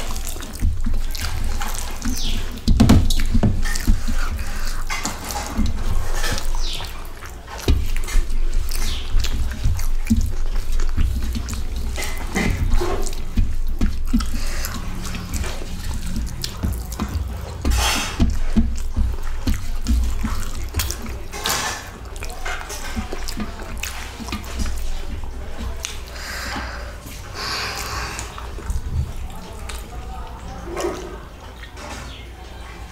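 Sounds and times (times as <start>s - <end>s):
chewing and lip-smacking: 0.0s - 32.9s.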